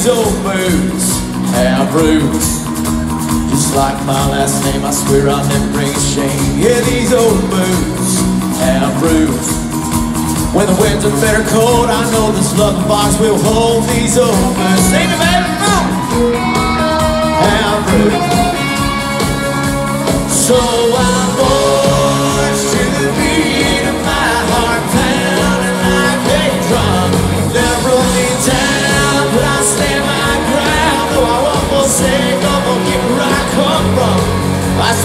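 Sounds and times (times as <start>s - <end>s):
lead vocal singing: 0.0s - 2.7s, 3.4s - 9.7s, 10.4s - 35.0s
drums: 0.0s - 35.0s
electric guitars: 0.0s - 35.0s.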